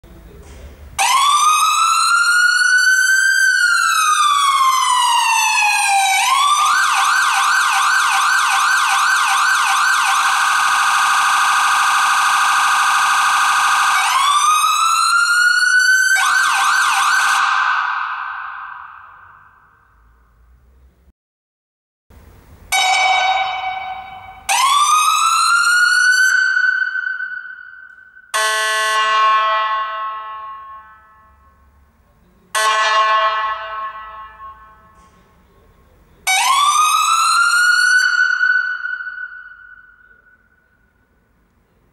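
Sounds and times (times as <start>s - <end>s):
electronic ambulance siren: 1.0s - 19.7s, 22.7s - 31.2s, 32.6s - 34.7s, 36.3s - 40.6s.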